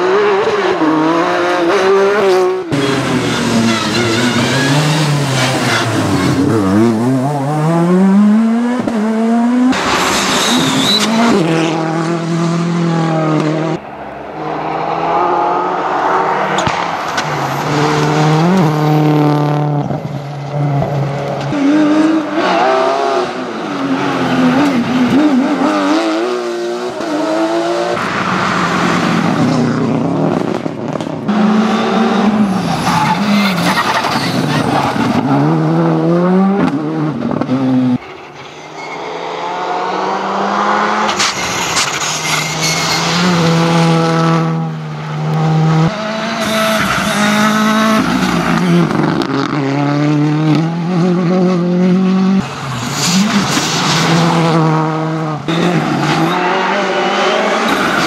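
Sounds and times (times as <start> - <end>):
rally car engines revving past: 0.0 - 38.0, 38.8 - 58.0.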